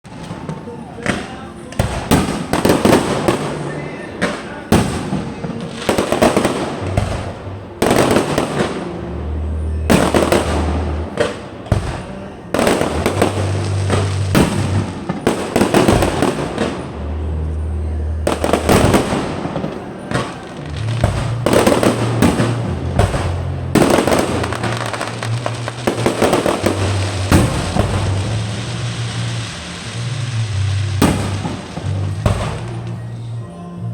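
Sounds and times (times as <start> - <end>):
fireworks bursting and crackling: 0.1 - 33.9
music with deep bass line: 4.7 - 33.9.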